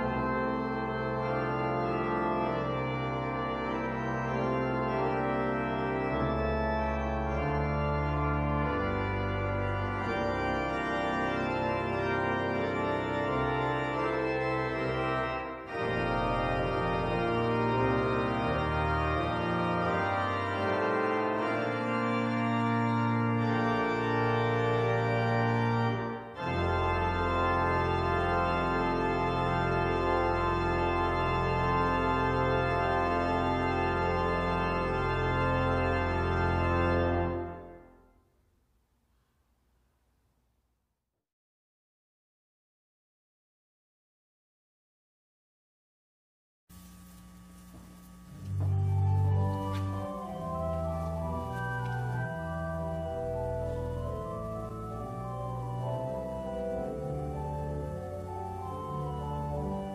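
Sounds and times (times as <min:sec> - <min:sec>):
pipe organ chords: 0:00.0 - 0:38.2, 0:46.8 - 0:59.9.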